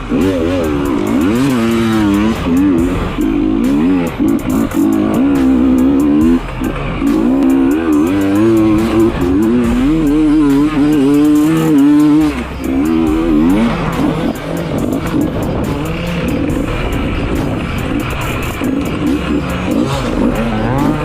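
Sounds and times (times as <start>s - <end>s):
background music: 0.0s - 21.0s
dirt bike engine revving: 0.0s - 21.0s.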